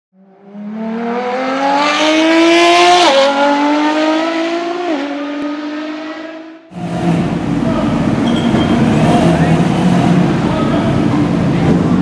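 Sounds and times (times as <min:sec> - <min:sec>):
car engine accelerating: 0:00.2 - 0:12.0.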